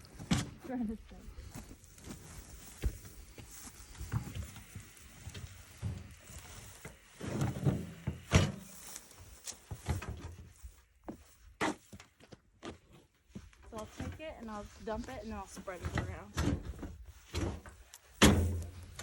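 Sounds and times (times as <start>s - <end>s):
rustling and scraping: 1.4s - 19.0s.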